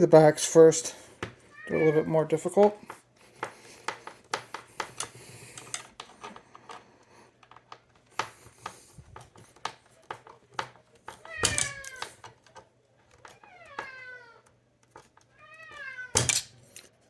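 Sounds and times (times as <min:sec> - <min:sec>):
small metal clicks and scrapes: 0:02.5 - 0:17.0.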